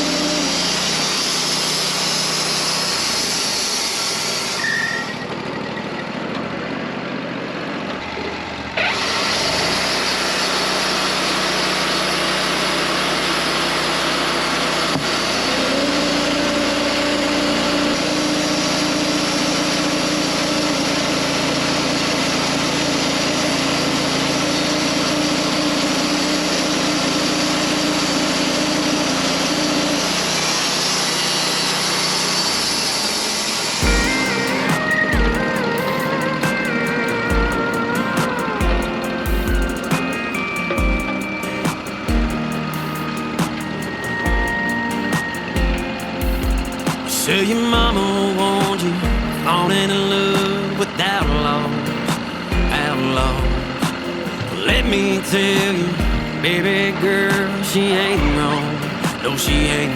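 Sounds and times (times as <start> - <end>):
band sawmill running: 0.0 - 59.9
steady whine: 0.0 - 59.9.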